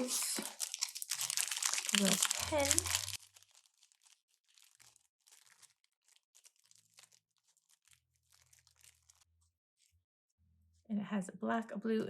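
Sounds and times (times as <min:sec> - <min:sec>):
packaging crinkling and rustling: 0:00.0 - 0:09.9.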